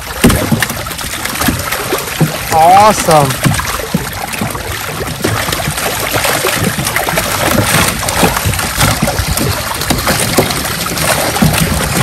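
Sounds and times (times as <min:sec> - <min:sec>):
fish splashing in shallow water: 0:00.0 - 0:12.0.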